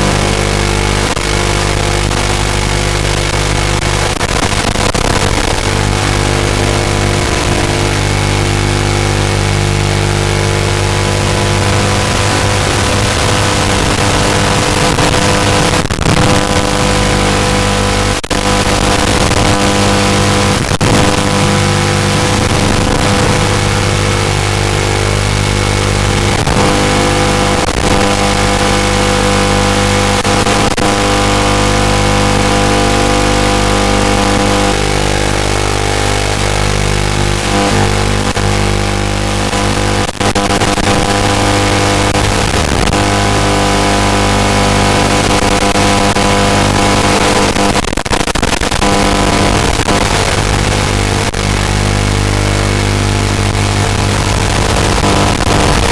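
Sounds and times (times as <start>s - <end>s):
electronic buzz with hiss: 0.0s - 55.9s
signal crackles: 0.0s - 55.9s.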